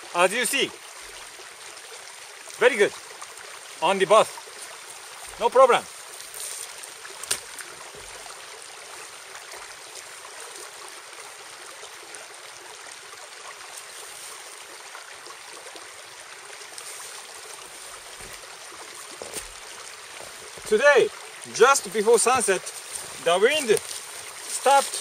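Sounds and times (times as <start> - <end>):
flowing stream: 0.0 - 25.0.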